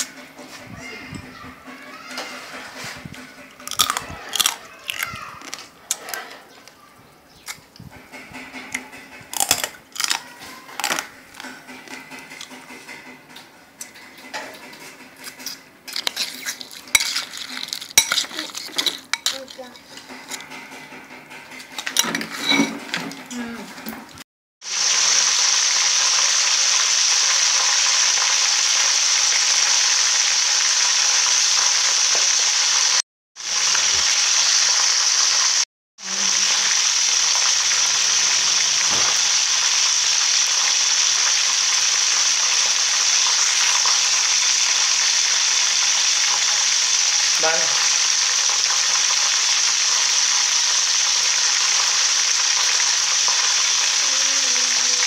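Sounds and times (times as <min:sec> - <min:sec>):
chicken sizzling in hot fat: 0:00.0 - 0:23.5, 0:24.6 - 0:55.0.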